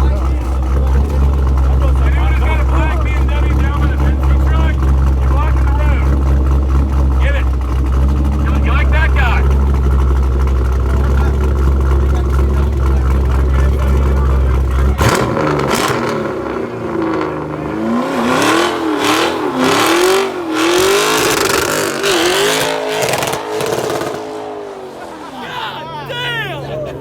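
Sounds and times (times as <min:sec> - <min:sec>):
car engine rumbling and revving: 0:00.0 - 0:27.0.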